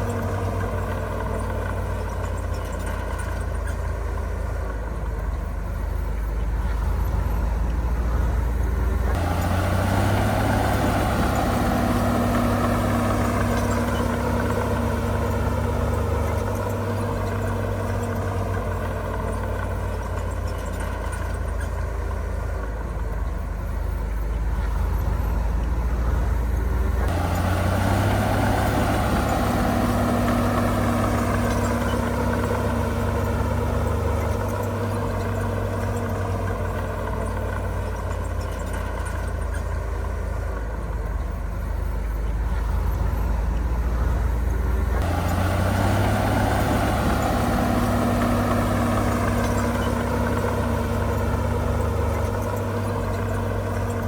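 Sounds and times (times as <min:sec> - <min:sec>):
heavy diesel engine revving: 0:00.0 - 0:39.8, 0:40.4 - 0:54.0.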